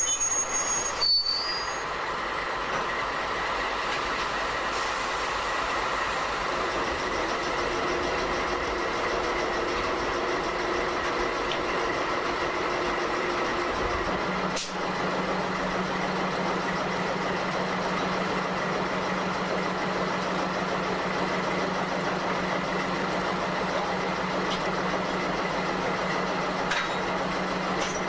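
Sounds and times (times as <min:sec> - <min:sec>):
diesel locomotive idling: 0:00.0 - 0:28.0.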